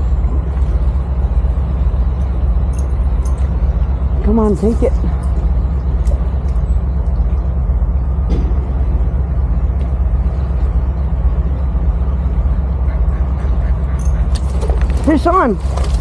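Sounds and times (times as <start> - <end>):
low rumble of city traffic: 0.0 - 16.0.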